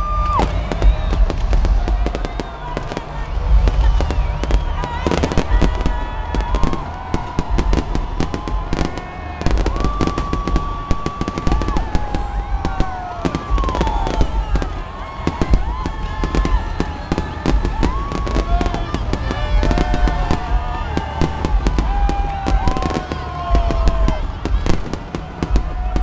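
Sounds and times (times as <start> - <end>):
fireworks bangs and crackles: 0.0 - 26.0
fireworks whistles gliding down: 0.0 - 26.0
low rumble: 0.0 - 26.0.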